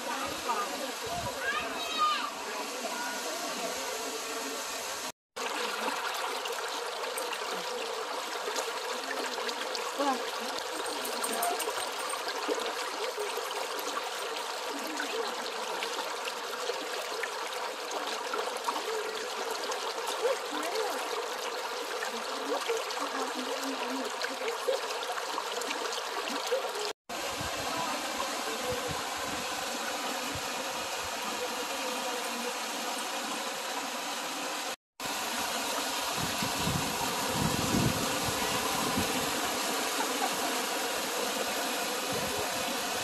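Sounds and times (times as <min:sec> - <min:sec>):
creek water rushing over rock: 0:00.0 - 0:43.0.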